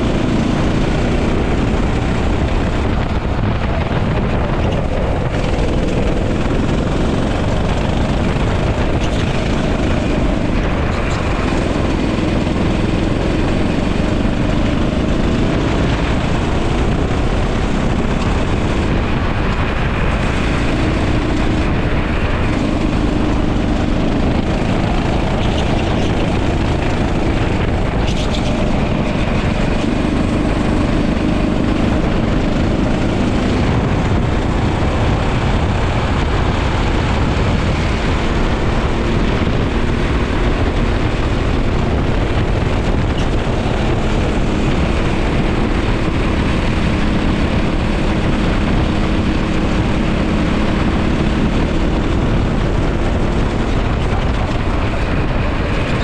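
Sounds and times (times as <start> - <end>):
dense rushing noise: 0.0 - 56.0
go-kart engine running: 0.0 - 56.0.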